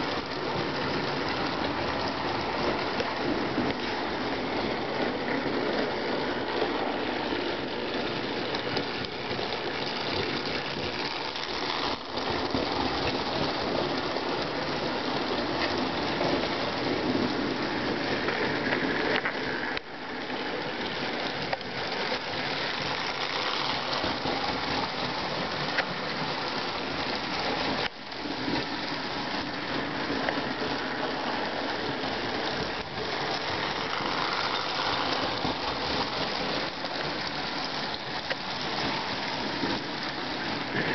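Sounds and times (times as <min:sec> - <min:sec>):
toy train wheels clattering: 0:00.0 - 0:40.9.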